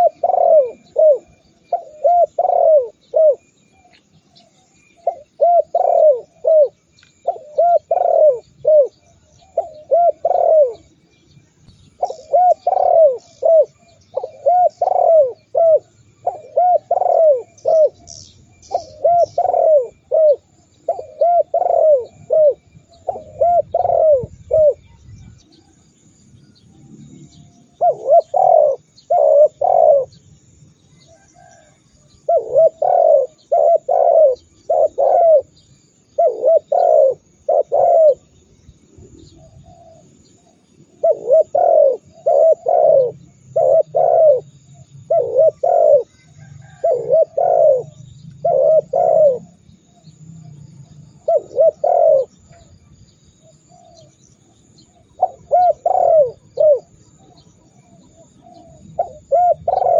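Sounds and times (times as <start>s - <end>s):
dove cooing: 0.0s - 11.0s, 11.9s - 25.7s, 27.1s - 59.9s.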